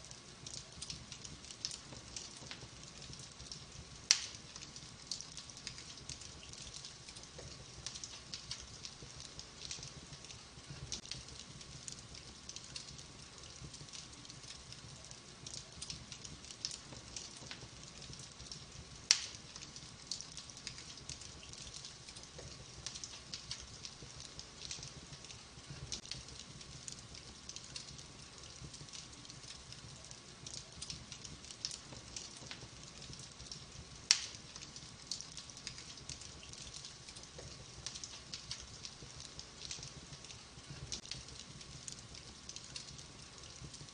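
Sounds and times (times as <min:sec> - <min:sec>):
wood fire crackling: 0:00.0 - 0:43.9
sharp pops of fire: 0:00.4 - 0:43.9.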